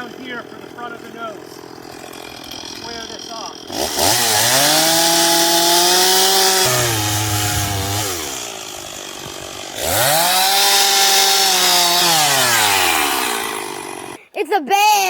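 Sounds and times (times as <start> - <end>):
chainsaw cutting log: 0.0 - 14.2.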